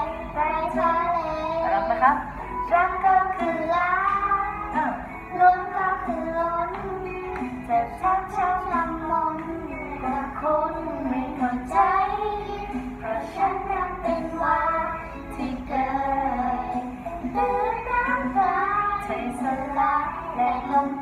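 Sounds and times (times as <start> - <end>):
boy singing pop song: 0.0 - 21.0.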